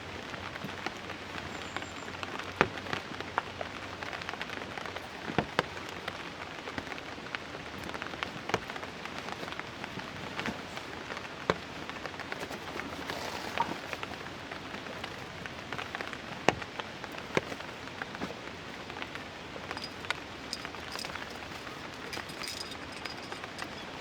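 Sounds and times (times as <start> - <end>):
steady rain: 0.0 - 22.9.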